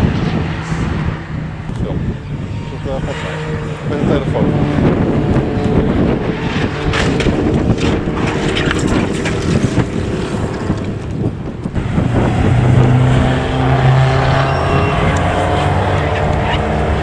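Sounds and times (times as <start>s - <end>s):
race car engines passing: 0.0s - 17.0s
wind buffeting microphone: 0.0s - 17.0s.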